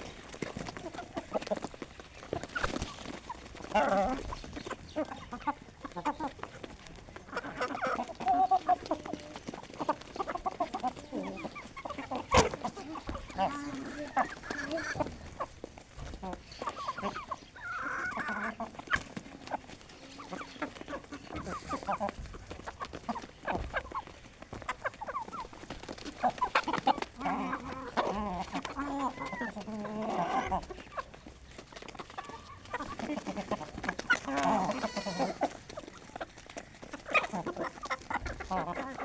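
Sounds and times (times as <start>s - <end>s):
hens clucking and calling: 0.0s - 39.0s.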